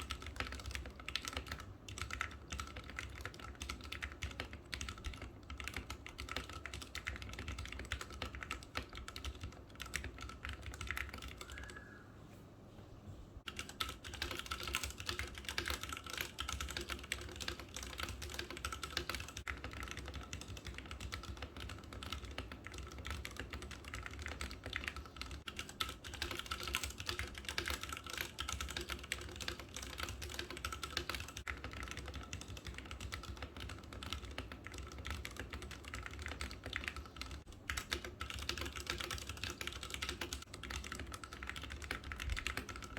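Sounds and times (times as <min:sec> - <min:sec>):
fast mechanical keyboard typing: 0:00.0 - 0:11.8, 0:13.4 - 0:42.9.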